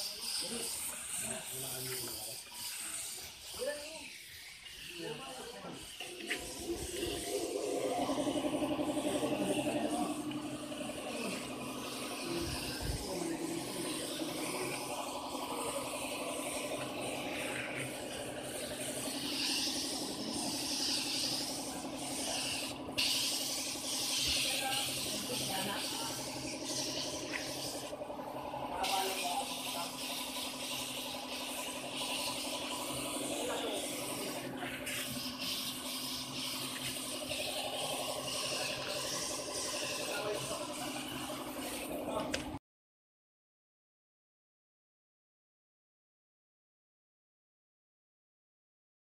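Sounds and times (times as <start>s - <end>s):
paint spray gun hissing: 0.0s - 42.5s
steady machine hum: 0.1s - 42.6s.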